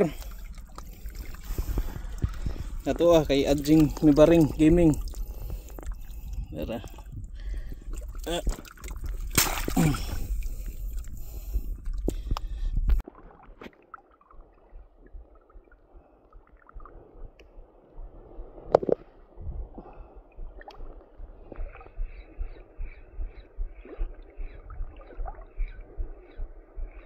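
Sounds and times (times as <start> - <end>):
water splashing with rumble: 0.0 - 26.8
faint lapping water: 0.0 - 27.0.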